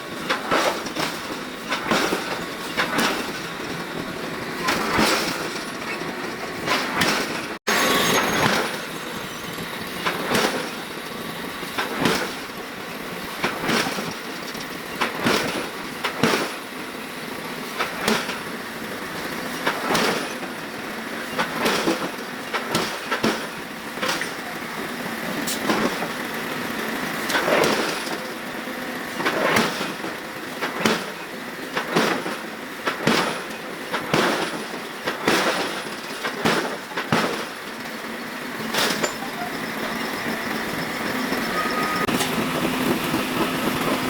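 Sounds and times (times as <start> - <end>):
shop machinery noise: 0.0 - 44.0.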